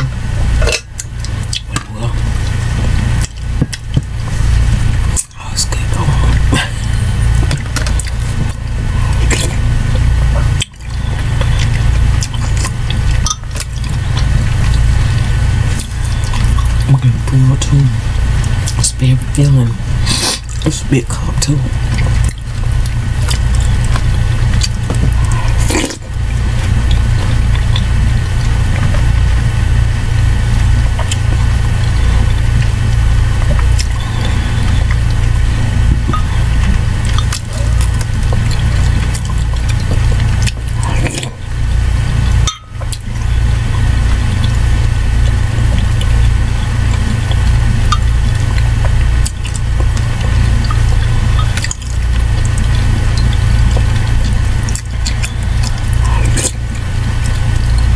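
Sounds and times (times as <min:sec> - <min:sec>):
loud steady low hum: 0:00.0 - 0:57.9.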